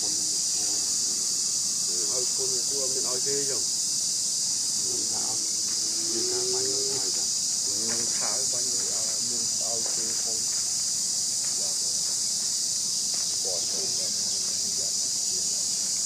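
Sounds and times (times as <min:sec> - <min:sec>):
faint voices talking: 0:00.0 - 0:03.7, 0:04.7 - 0:10.6, 0:11.4 - 0:12.2, 0:13.2 - 0:15.9
insect chorus drone: 0:00.0 - 0:16.0.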